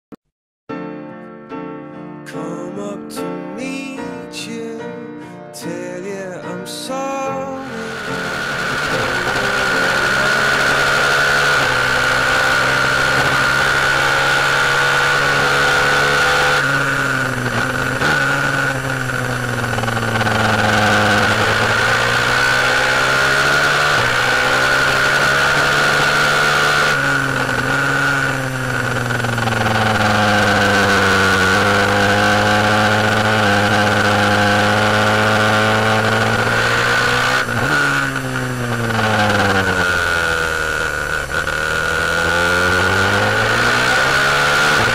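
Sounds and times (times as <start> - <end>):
high whine: 7.5 - 44.9
motorcycle engine running hard: 7.6 - 44.9.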